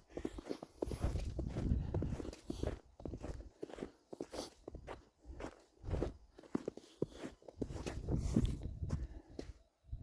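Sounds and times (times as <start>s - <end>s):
irregular footsteps: 0.0s - 9.6s.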